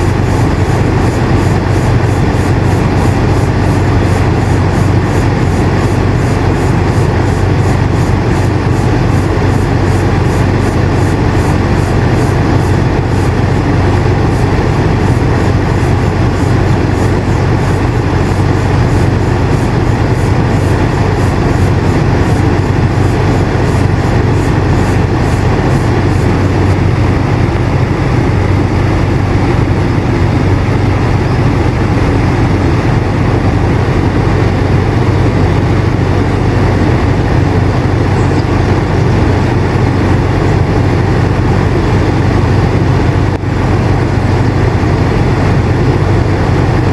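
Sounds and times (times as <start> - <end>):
air conditioner running: 0.0 - 46.9.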